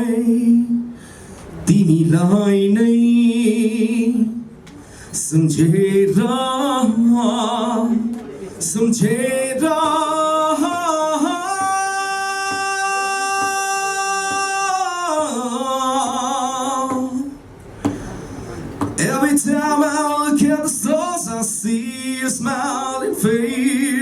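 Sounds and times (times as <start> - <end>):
man singing unaccompanied: 1.7 - 4.5, 5.1 - 17.4, 18.8 - 24.0.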